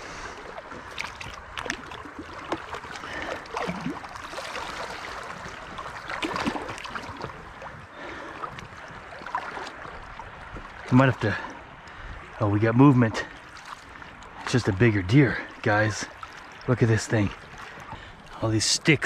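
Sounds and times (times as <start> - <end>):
river water splashing: 0.0 - 19.0.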